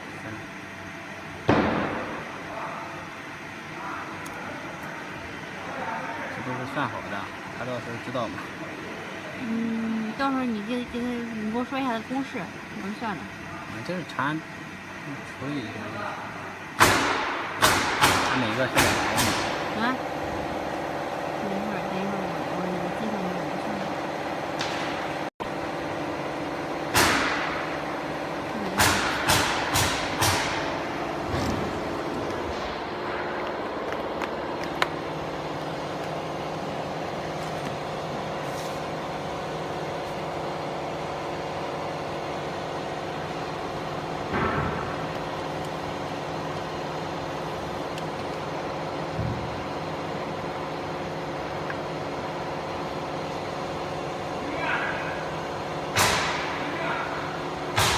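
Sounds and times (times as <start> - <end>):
machine hum: 0.0 - 57.9.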